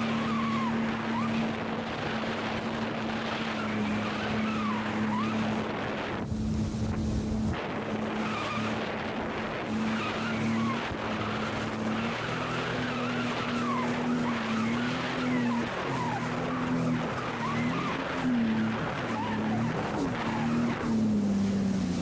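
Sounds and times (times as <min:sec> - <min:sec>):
jet ski engine: 0:00.0 - 0:22.0
wind and spray rushing: 0:00.0 - 0:22.0.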